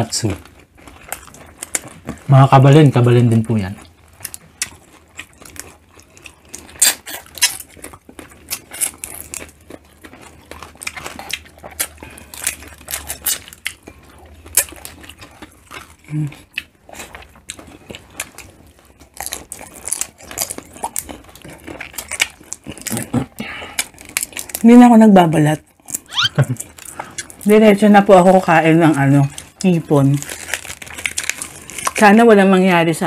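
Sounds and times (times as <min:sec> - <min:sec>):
chewing and crunching: 0:00.0 - 0:33.0.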